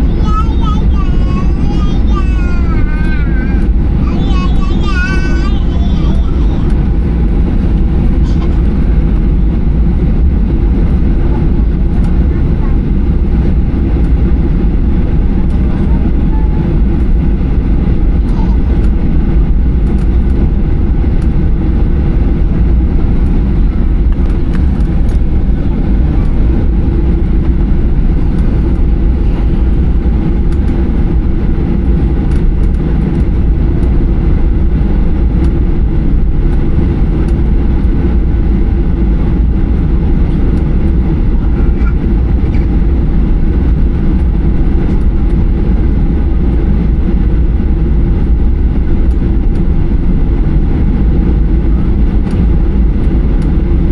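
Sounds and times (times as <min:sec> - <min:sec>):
airplane cabin engine rumble: 0:00.0 - 0:53.9
rushing airflow: 0:00.0 - 0:53.9.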